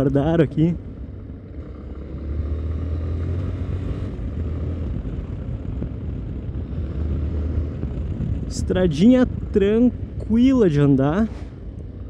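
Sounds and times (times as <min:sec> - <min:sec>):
motorcycle engine droning: 0:00.0 - 0:10.2.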